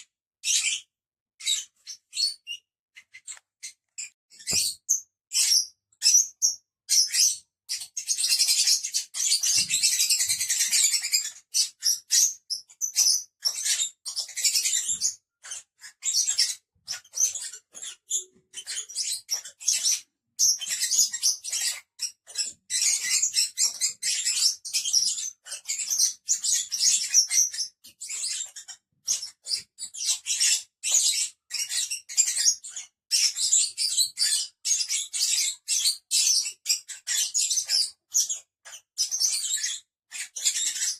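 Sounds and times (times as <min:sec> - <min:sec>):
lovebirds chattering: 0:00.4 - 0:40.9.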